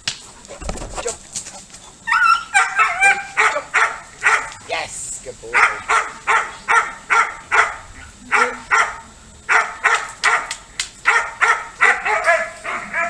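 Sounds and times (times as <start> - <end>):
dog barking: 1.0 - 4.6, 5.4 - 13.0.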